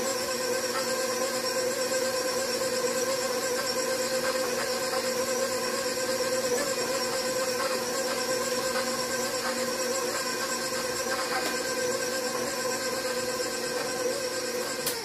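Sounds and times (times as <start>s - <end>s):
stand mixer motor whine: 0.0s - 15.0s.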